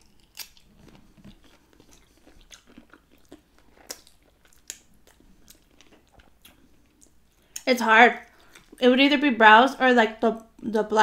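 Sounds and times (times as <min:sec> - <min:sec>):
chewing with wet clicks: 0:00.0 - 0:08.8.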